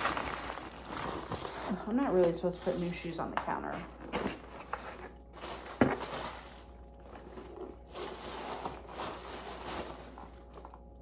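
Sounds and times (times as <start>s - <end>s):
packaging rustling: 0.0s - 2.9s, 3.9s - 11.0s.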